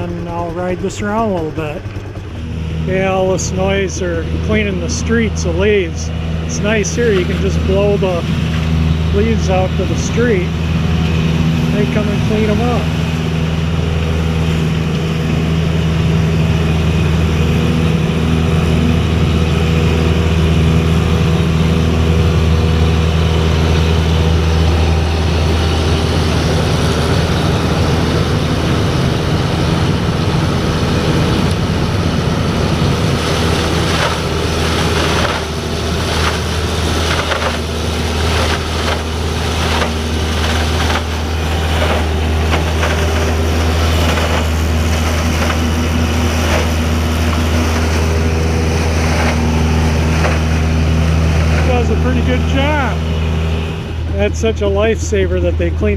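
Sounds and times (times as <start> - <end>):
motorcycle engine idling: 0.0 - 48.8
rasping pulses: 0.0 - 54.7
leaf-cleaning machinery droning: 0.0 - 55.9.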